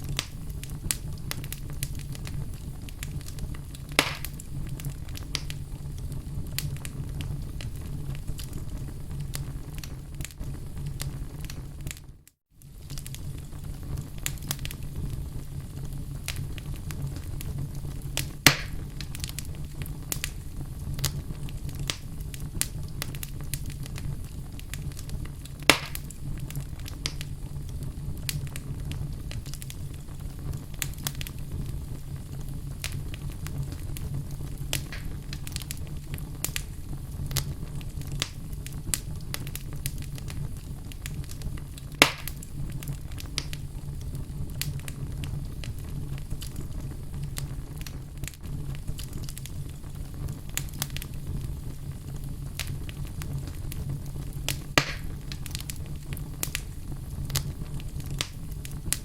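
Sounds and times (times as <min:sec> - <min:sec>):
fire sharp pops: 0:00.0 - 0:59.0
wood fire crackling: 0:00.0 - 0:59.0.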